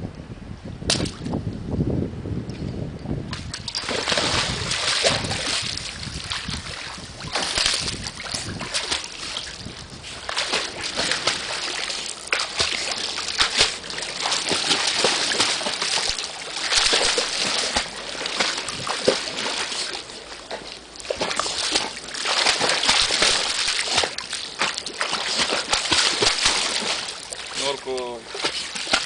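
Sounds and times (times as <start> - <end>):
water sloshing: 3.3 - 29.0
dog splashing in water: 3.7 - 29.0.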